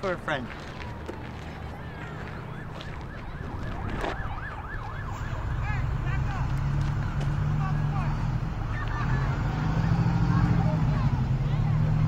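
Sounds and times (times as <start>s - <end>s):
distant siren wailing: 0.5s - 11.6s.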